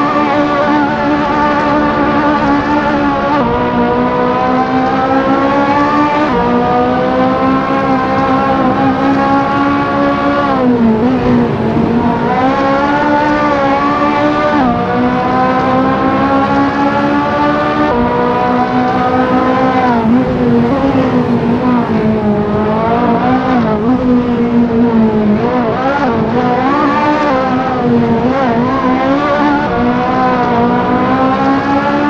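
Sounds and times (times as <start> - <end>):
sports car engine accelerating: 0.0 - 32.0.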